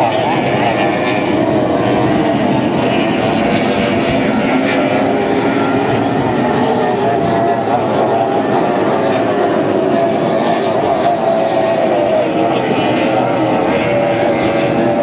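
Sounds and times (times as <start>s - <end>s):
powerboat engines roaring: 0.0s - 15.0s.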